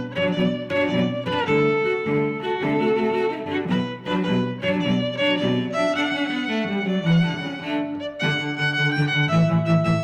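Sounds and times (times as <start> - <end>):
cello: 0.0 - 10.0
violin: 0.0 - 10.0.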